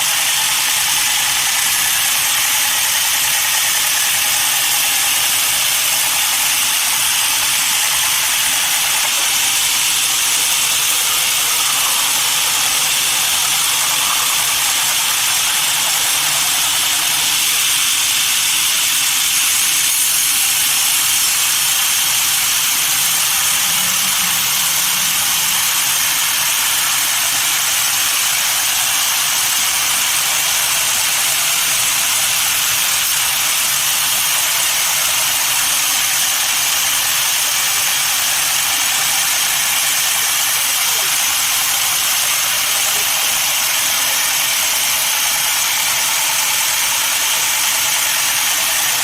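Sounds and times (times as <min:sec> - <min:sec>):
sawmill machinery hissing: 0:00.0 - 0:49.0.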